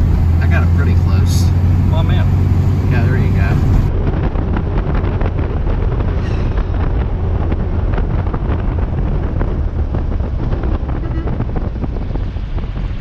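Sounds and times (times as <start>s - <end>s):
car rumbling on road: 0.0s - 13.0s
wind buffeting microphone: 0.0s - 13.0s.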